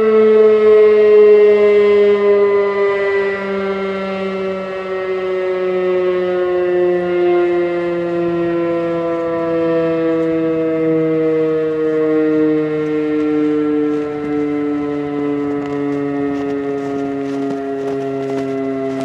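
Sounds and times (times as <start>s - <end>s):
warning siren winding down: 0.0s - 19.0s.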